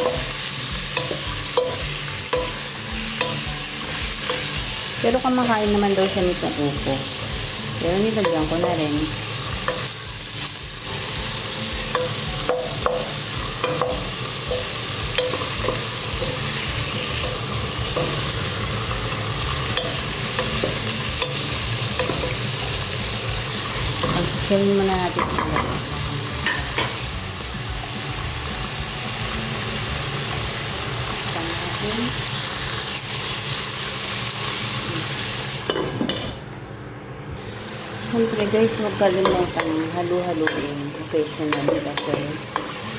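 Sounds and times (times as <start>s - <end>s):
chicken sizzling in oil: 0.0s - 35.8s.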